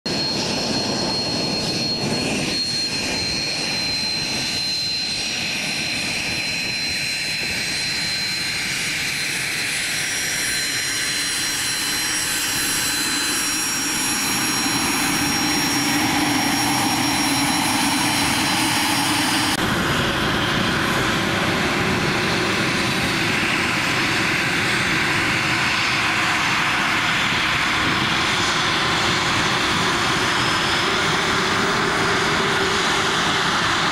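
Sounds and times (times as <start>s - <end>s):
jet engines rushing and whining: 0.0s - 33.9s.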